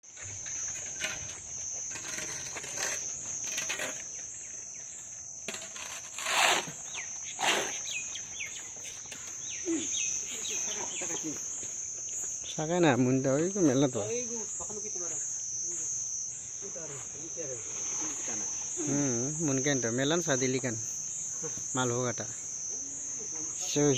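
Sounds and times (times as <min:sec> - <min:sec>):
high-pitched insect chirring: 0:00.0 - 0:23.9.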